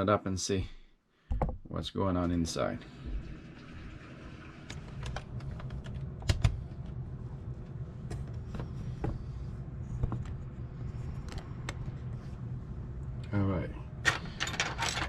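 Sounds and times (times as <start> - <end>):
low electrical buzz: 1.8 - 15.0.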